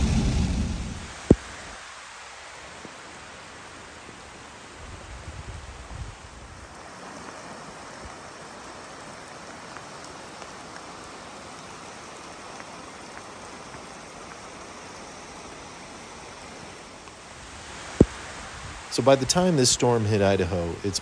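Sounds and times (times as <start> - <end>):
heavy rain falling: 0.0 - 21.0
raindrops ticking close by: 0.0 - 21.0.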